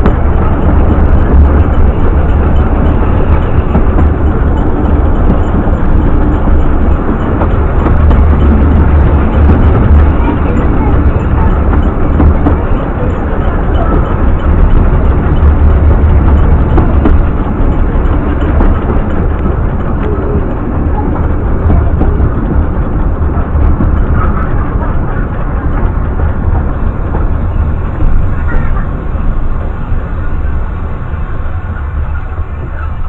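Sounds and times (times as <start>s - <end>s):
train rumbling on track: 0.0s - 33.0s.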